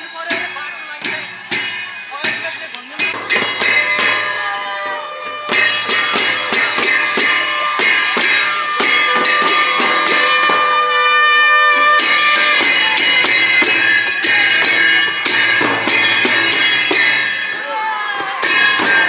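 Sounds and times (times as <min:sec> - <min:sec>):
music with percussive beat: 0:00.0 - 0:19.0.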